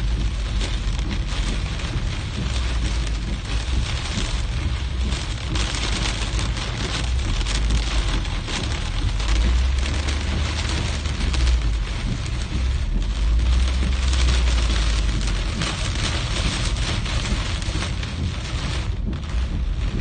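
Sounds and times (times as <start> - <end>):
heavy rain on a car roof: 0.0 - 20.0
low rumble: 0.0 - 20.0.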